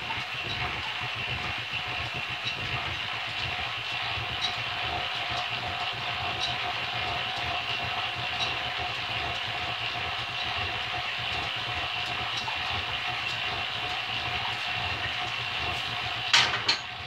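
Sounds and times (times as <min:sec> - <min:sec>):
drill press whirring and whining: 0:00.0 - 0:17.0.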